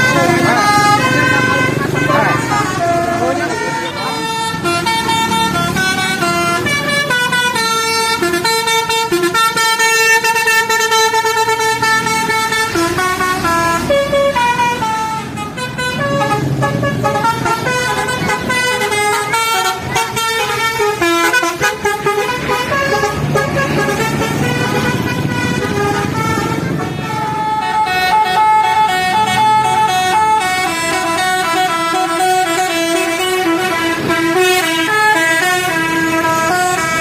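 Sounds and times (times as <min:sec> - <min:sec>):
musical bus horns: 0:00.0 - 0:37.0
traffic rumble: 0:00.0 - 0:37.0.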